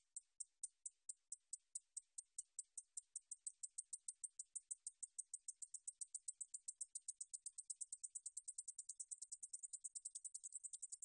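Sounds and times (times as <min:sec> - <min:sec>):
katydid ticking: 0:01.5 - 0:11.0.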